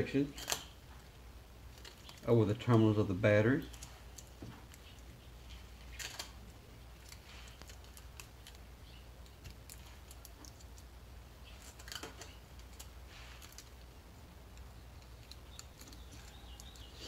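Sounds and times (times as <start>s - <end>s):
tape rustling: 0.3s - 2.9s, 3.6s - 17.0s.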